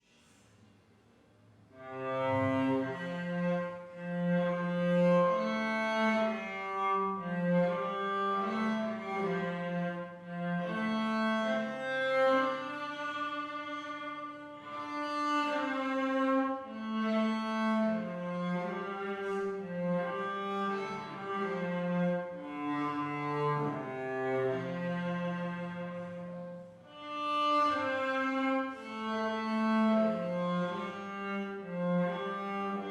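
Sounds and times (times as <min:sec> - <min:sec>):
cello playing slow bowed notes: 0:01.7 - 0:32.9.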